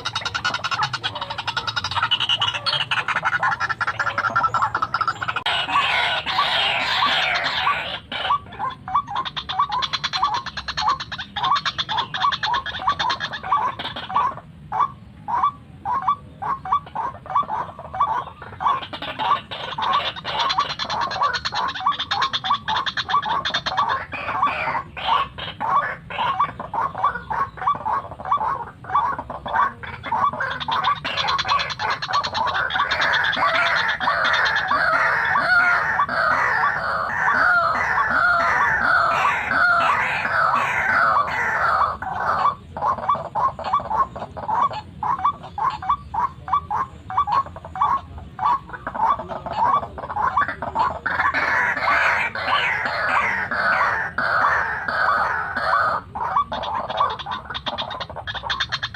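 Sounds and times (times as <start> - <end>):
waterhen calling: 0.0 - 58.9.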